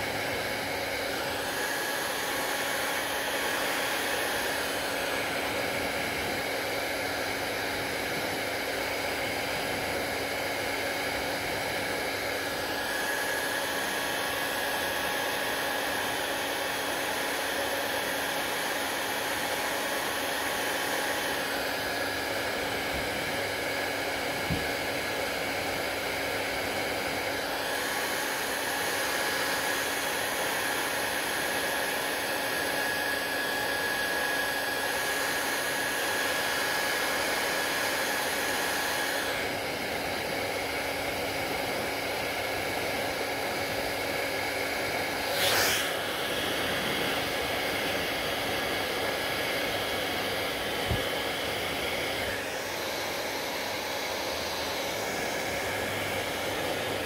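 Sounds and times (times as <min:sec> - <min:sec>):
hair dryer blowing: 0:00.0 - 0:57.0.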